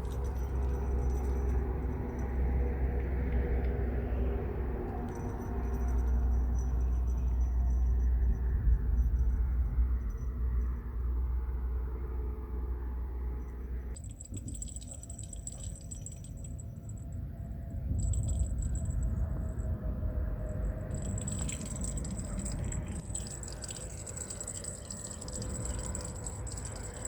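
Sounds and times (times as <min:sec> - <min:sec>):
low rumble with rushing haze: 0:00.0 - 0:14.7, 0:15.4 - 0:27.0.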